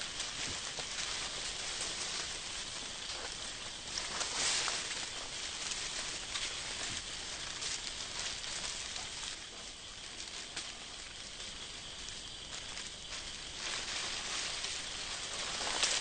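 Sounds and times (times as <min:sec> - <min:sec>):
dry leaves crackling and rustling: 0:00.0 - 0:16.0
steady outdoor hiss: 0:00.0 - 0:16.0.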